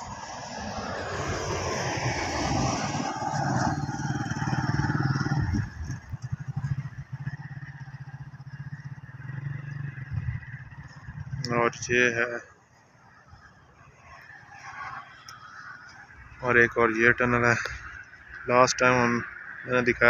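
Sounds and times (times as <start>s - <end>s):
low throbbing engine: 0.0s - 20.0s
motor vehicle passing: 0.0s - 20.0s.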